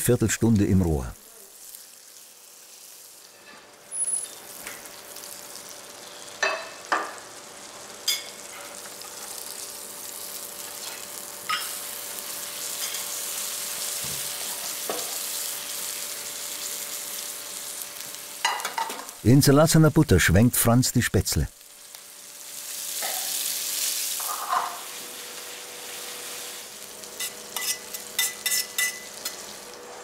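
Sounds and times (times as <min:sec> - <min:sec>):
fat sizzling in frying pans: 0:01.2 - 0:19.2, 0:21.5 - 0:30.0.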